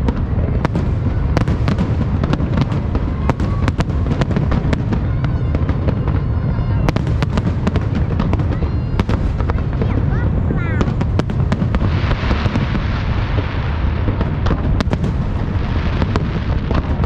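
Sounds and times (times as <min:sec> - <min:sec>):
fireworks cracking and popping: 0:00.0 - 0:17.0
low rumble of explosions: 0:00.0 - 0:17.0.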